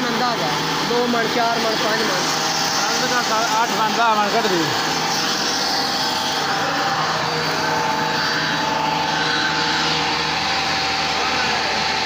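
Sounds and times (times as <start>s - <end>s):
constant whine: 0.0s - 12.0s
electric pump motor humming: 0.0s - 12.0s.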